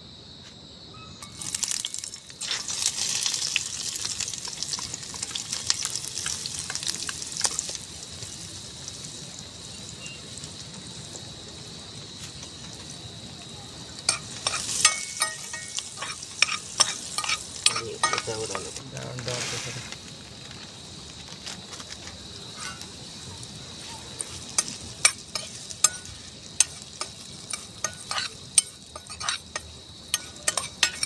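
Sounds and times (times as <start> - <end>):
wood fire hissing and crackling: 1.3 - 31.0.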